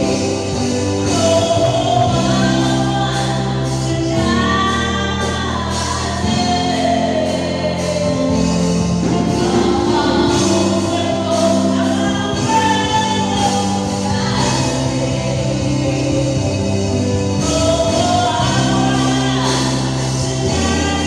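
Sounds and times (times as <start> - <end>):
gospel group singing: 0.0 - 21.0
sustained instrumental chords: 0.0 - 21.0.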